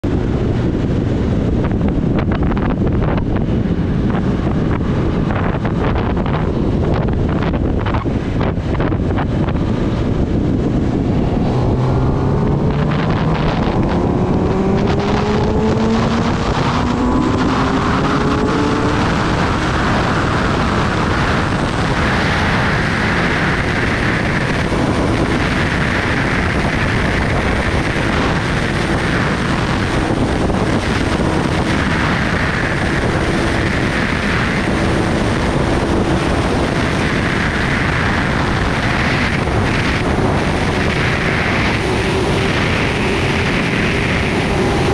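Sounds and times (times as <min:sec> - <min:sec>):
motorcycle engine accelerating: 0:00.0 - 0:44.9
wind rushing over microphone: 0:00.0 - 0:44.9.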